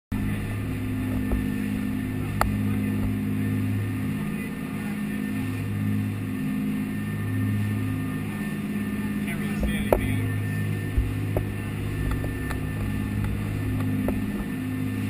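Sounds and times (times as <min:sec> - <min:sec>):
boat engines humming: 0:00.1 - 0:15.0.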